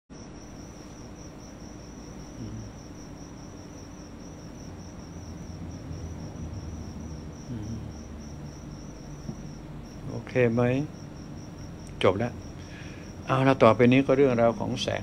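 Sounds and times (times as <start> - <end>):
cricket chirping: 0.1 - 15.0
low background hum: 0.1 - 15.0.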